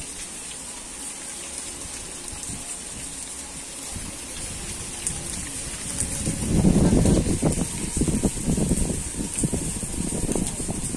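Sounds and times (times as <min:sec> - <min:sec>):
faint raindrop ticks: 0:00.0 - 0:10.9
steady rain hiss: 0:00.0 - 0:10.9.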